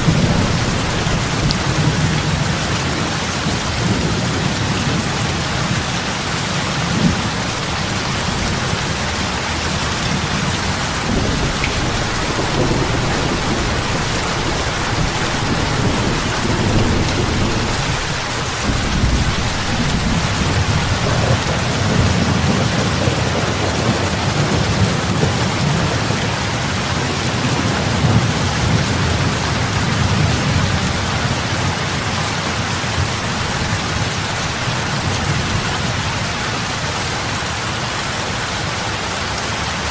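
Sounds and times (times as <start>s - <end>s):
heavy rain on lake water: 0.0s - 39.9s.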